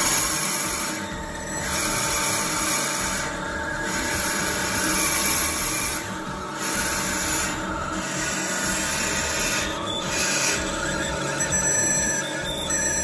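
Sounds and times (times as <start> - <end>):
drill scraping metal: 0.0 - 13.0
lathe machine hum: 0.0 - 13.0.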